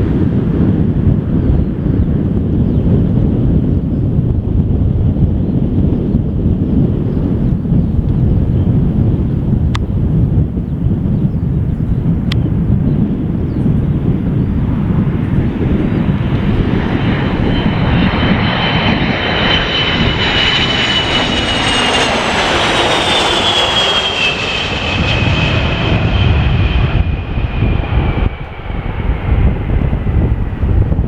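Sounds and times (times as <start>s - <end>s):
jet engines whining: 0.0s - 31.0s
wind buffeting microphone: 0.0s - 31.0s.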